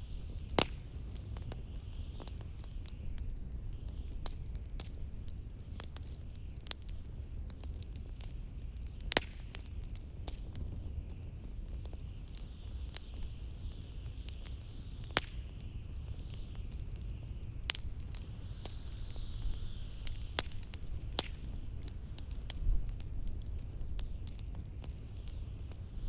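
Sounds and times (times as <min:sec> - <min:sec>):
log fire crackling and popping: 0:00.0 - 0:26.0.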